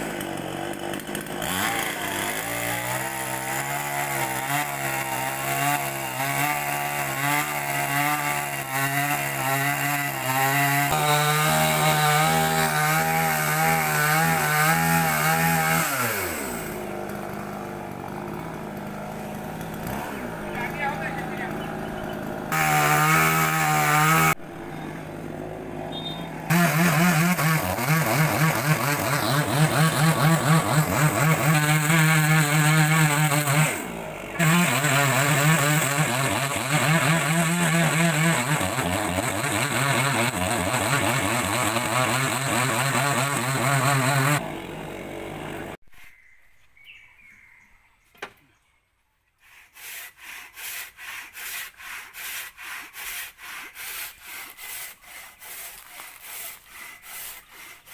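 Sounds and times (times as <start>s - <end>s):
chainsaw running at high revs: 0.0s - 45.8s, 49.8s - 57.9s
hand saw cutting wood: 0.0s - 46.2s, 49.4s - 57.9s.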